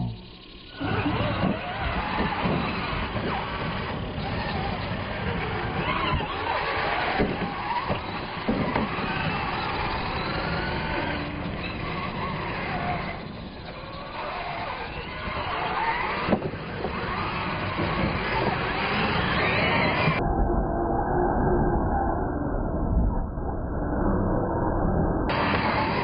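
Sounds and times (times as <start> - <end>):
toy truck motors whining: 0.0 - 20.2, 25.3 - 26.0.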